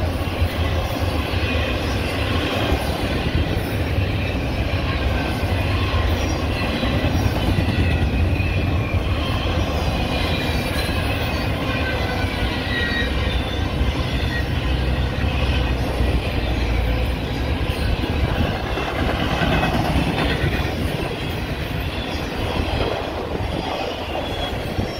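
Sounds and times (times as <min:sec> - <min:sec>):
train wheels rumbling on rail: 0:00.0 - 0:24.9
high-pitched wheel squeal: 0:01.4 - 0:24.9.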